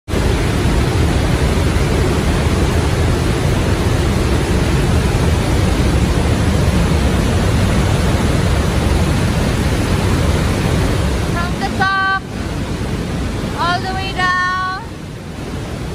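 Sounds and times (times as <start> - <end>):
water rushing through gorge: 0.1 - 15.9.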